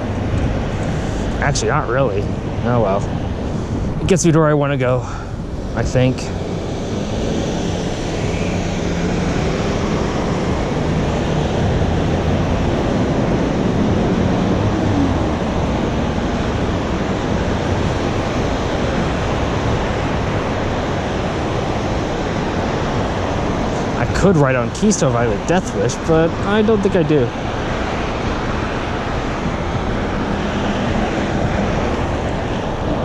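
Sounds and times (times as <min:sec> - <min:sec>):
road traffic rushing past: 0:00.0 - 0:33.0.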